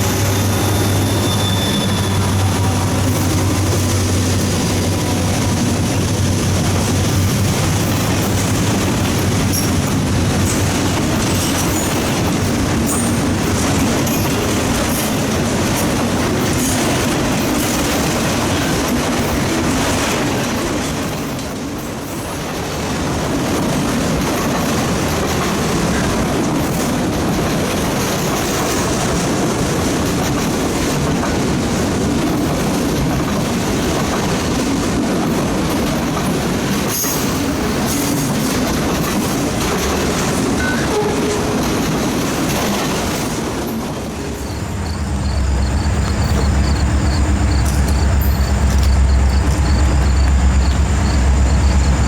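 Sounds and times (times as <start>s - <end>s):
train wheels clattering over rails: 0.0s - 52.0s.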